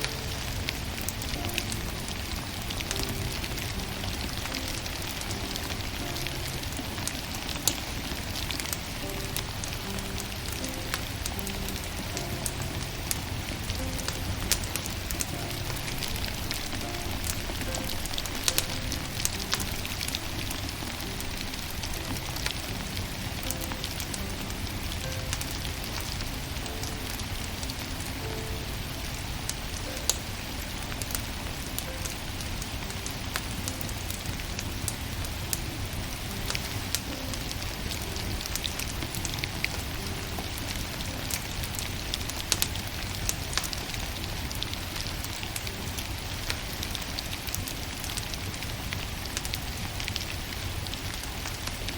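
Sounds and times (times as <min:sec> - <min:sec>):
faint soft music: 0:00.0 - 0:51.9
firewood crackling and popping: 0:00.0 - 0:51.9.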